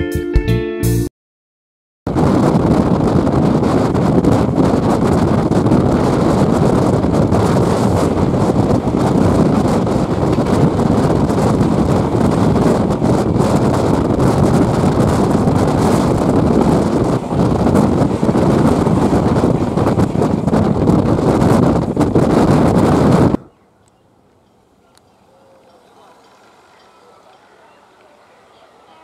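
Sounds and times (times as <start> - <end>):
passenger train rumble: 2.1 - 23.5, 24.2 - 29.0
passing train coaches: 2.1 - 29.0
wind buffeting microphone: 2.1 - 29.0.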